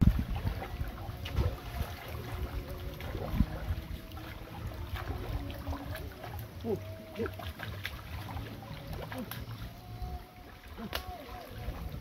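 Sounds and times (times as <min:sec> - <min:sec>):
footsteps splashing in water: 0:00.0 - 0:09.8.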